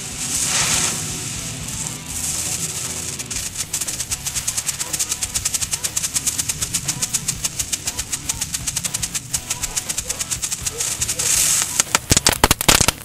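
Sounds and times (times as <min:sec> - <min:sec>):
low hum: 0:00.0 - 0:12.8
music with shaker beat: 0:00.0 - 0:13.0.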